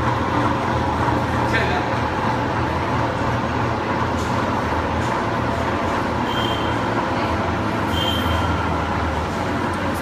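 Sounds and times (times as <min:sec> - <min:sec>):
haul cable mechanical rumble: 0:00.0 - 0:10.0.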